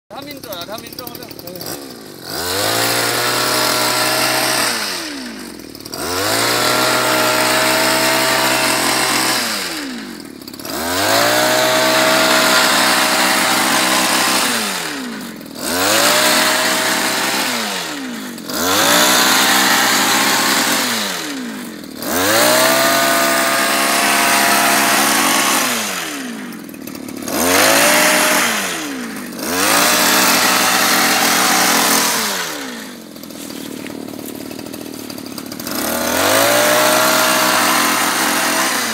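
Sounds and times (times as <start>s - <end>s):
small petrol engine revving: 0.1s - 38.9s
shear cutting bushes: 0.2s - 38.9s.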